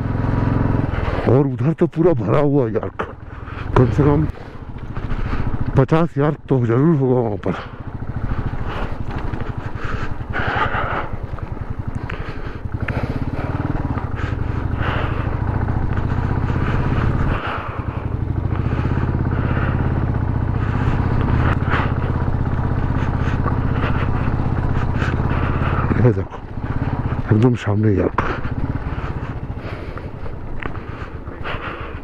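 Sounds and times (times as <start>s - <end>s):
knocks and rattles from bumpy road: 0.0s - 32.0s
motorcycle engine running under load: 0.0s - 32.0s.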